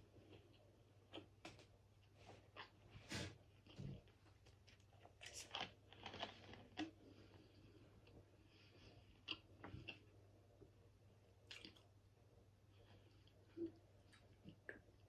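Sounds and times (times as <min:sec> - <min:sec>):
soft chewing: 0:00.0 - 0:15.0.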